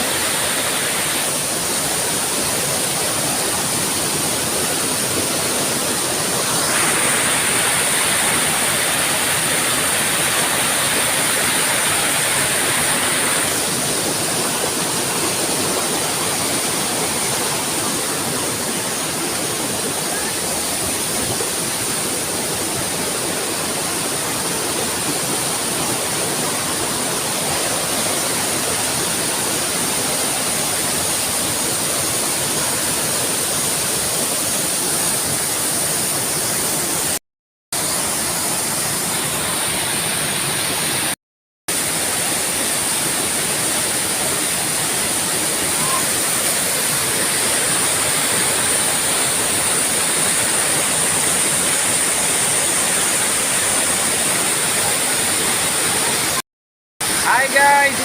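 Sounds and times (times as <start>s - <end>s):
waterfall roaring: 0.0s - 37.2s, 37.8s - 56.4s, 57.0s - 58.0s.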